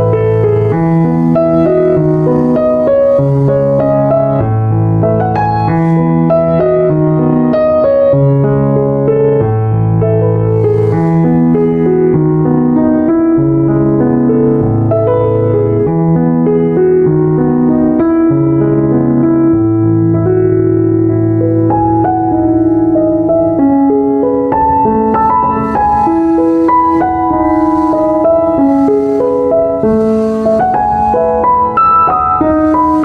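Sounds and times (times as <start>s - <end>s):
piano melody: 0.0s - 33.0s.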